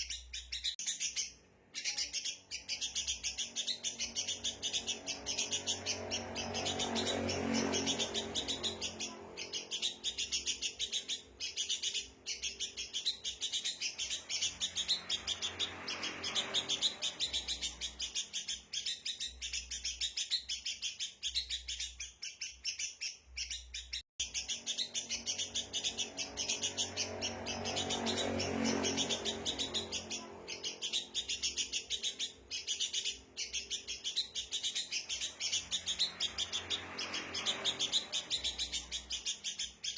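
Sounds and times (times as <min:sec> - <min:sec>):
birds chattering high chirps: 0:00.0 - 0:39.9.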